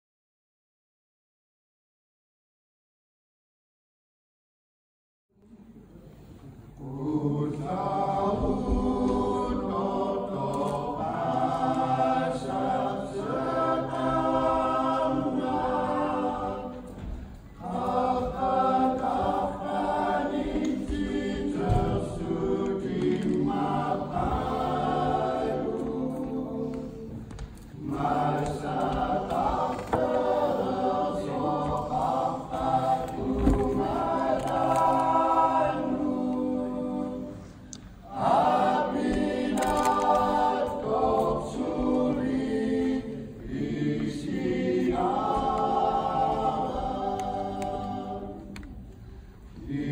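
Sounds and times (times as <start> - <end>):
mixed choir singing: 6.8 - 49.9.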